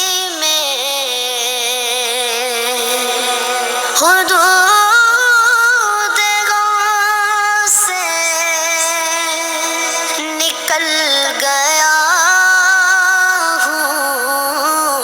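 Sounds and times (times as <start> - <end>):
person singing slow ornamented melody: 0.0 - 15.0.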